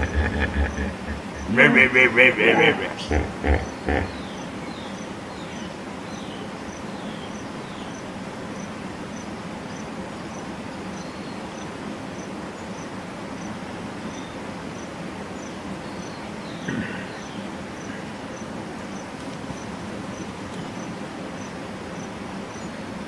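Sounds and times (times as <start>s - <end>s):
insect chirping: 0.0s - 1.6s, 2.8s - 16.2s, 17.1s - 22.8s
low background noise: 0.0s - 23.0s.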